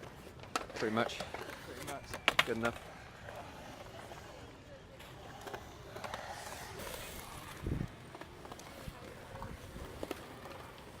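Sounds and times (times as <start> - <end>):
background chatter of voices: 0.7 - 11.0.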